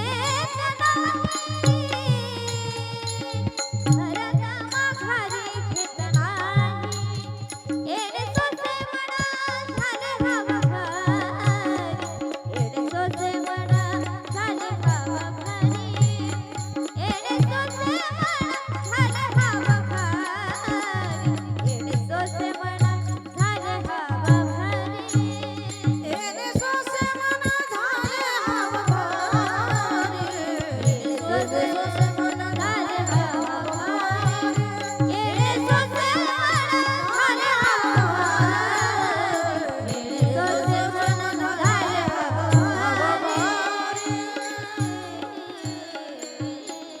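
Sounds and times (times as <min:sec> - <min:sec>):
jingling hand cymbals: 0:00.0 - 0:47.0
women singing devotional song: 0:00.0 - 0:47.0.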